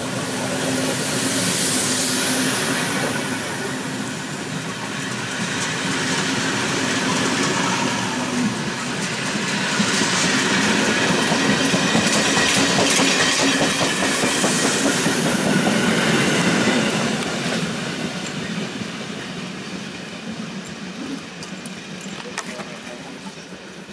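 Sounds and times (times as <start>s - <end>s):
steam train rolling past: 0.0s - 23.9s.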